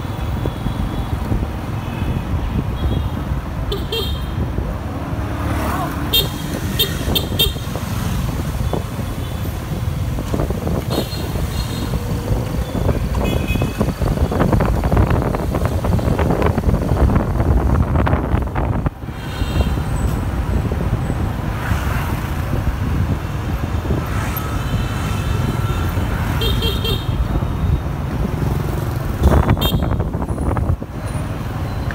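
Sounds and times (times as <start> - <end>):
wind rushing over microphone: 0.0 - 31.6
motorbike and scooter traffic: 0.0 - 31.9.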